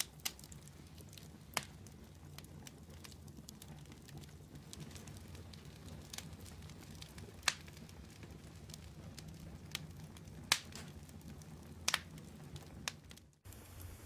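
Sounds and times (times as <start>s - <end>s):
burning wood crackling and popping: 0.0s - 14.0s
fire flames rumbling: 0.0s - 14.0s.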